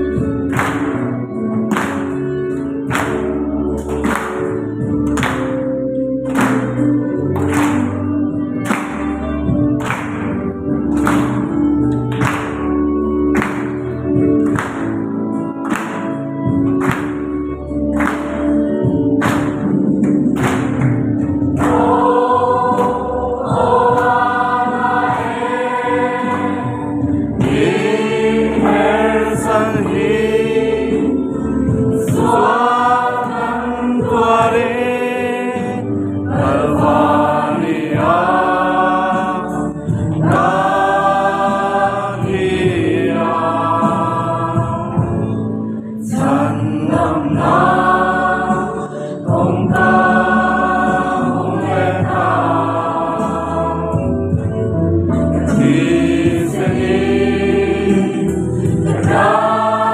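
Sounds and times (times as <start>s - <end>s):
choir singing a worship song: 0.0s - 59.9s.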